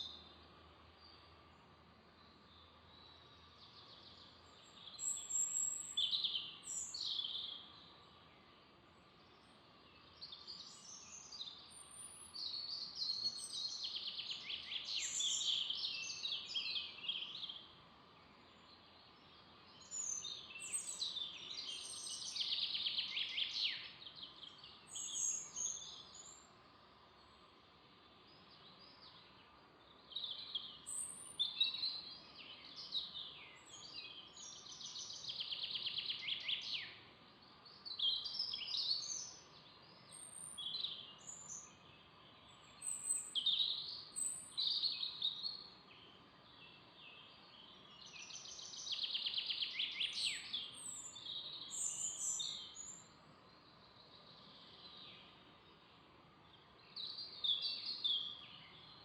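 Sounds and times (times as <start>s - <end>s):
background hiss: 0.0s - 59.0s
songbirds singing trills: 0.0s - 59.0s.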